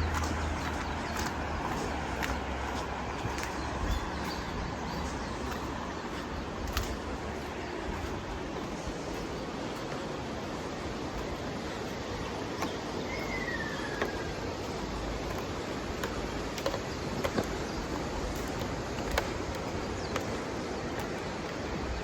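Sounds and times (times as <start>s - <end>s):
steady rushing background noise: 0.0s - 22.0s.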